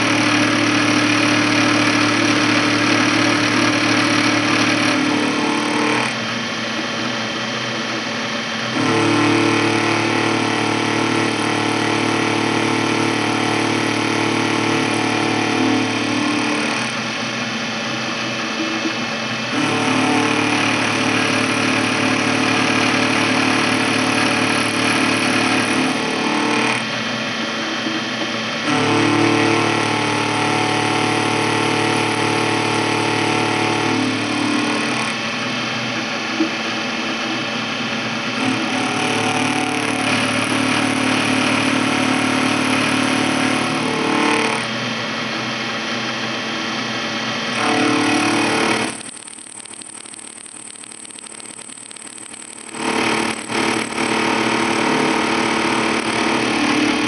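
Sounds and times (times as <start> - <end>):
cutting whine: 0.0 - 57.0
milling machine motor hum: 0.0 - 57.0.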